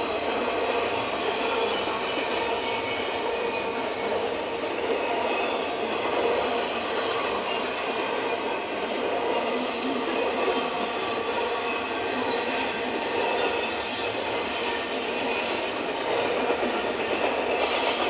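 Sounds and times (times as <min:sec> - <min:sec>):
train wheels rolling on rails: 0:00.0 - 0:18.0.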